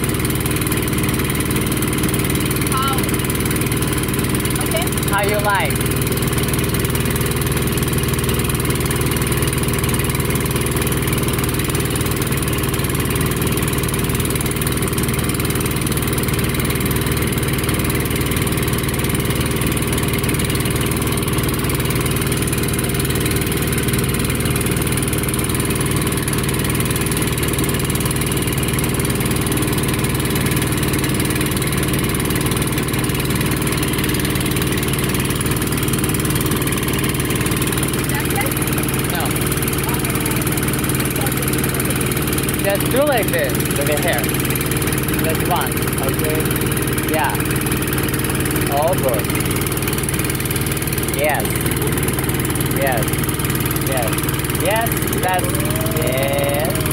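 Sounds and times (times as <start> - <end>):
boat engine droning: 0.0 - 56.9.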